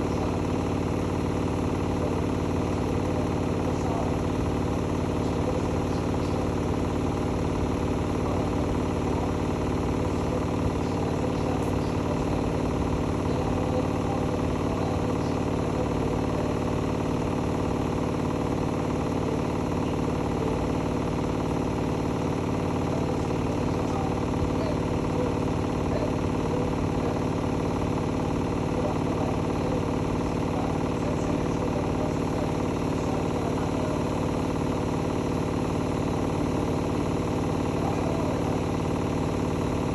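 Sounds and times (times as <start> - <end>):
washing machine hum: 0.0 - 39.9.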